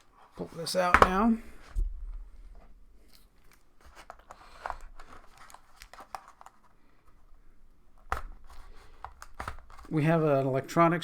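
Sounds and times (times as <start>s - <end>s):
packaging rustling and crinkling: 0.0s - 10.5s.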